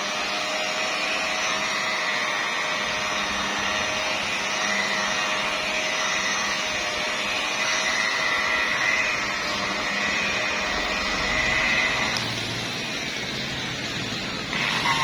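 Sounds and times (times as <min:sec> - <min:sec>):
car polishing machine whining: 0:00.0 - 0:15.0.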